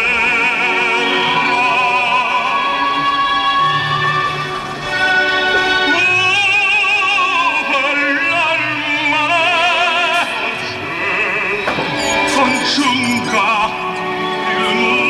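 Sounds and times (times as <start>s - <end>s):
operatic voice singing: 0.0s - 15.0s
sustained accompaniment: 0.0s - 15.0s.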